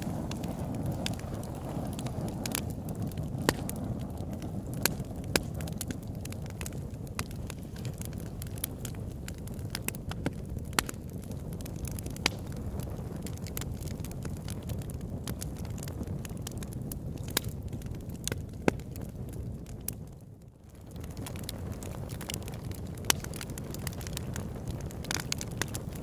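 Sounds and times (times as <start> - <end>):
fire crackling and popping: 0.0 - 26.0
rumble of flames: 0.0 - 26.0.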